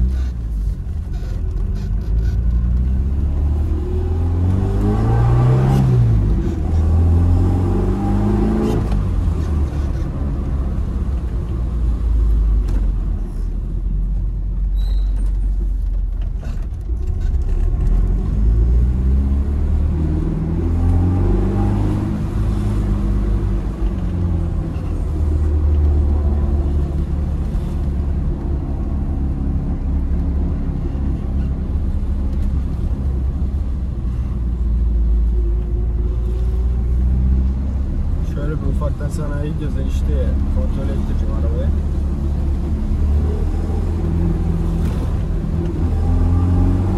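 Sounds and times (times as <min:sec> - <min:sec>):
car engine accelerating: 0:00.0 - 0:13.4, 0:16.5 - 0:46.9.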